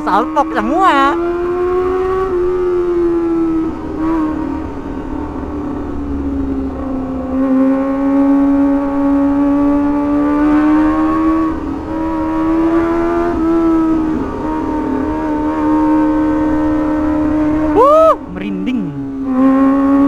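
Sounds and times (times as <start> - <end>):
motorcycle engine at high revs: 0.0 - 17.8, 18.4 - 20.0.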